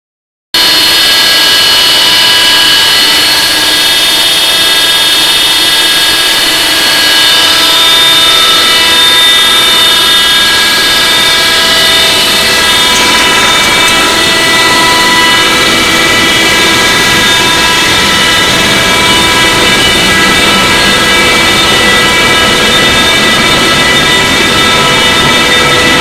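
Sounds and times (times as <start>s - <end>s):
machine whine: 0.6s - 26.0s.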